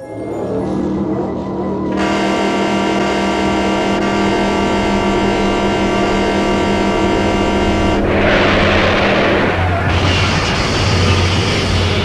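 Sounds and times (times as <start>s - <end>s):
droning held tones: 0.0s - 12.0s
loud noisy rush: 0.1s - 12.0s.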